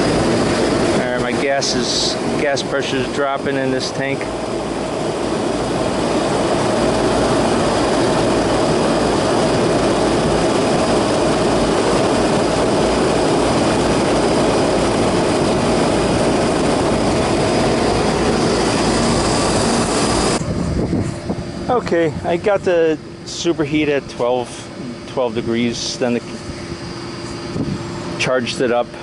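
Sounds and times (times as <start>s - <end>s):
air conditioner fan rushing and humming: 0.0s - 29.0s.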